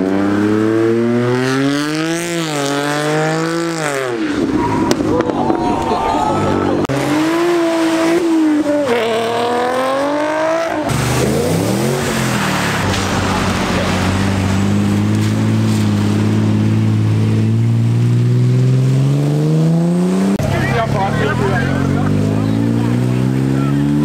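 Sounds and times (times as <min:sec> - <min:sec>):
car engine accelerating: 0:00.0 - 0:24.0
car engine revving: 0:00.0 - 0:24.0.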